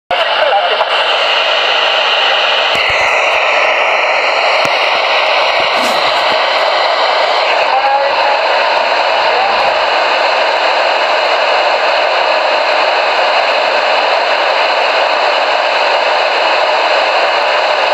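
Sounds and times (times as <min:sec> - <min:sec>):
radio static hiss: 0:00.1 - 0:17.9.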